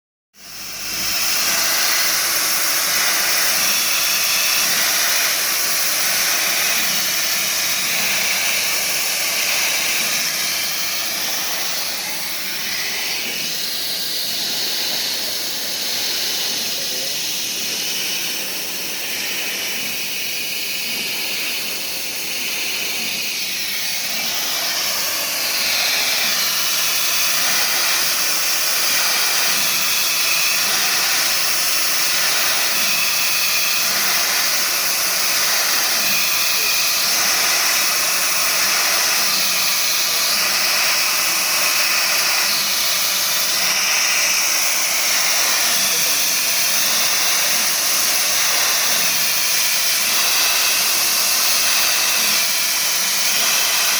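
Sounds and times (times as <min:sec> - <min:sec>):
machine cutting aluminium whine: 0:00.4 - 0:53.9.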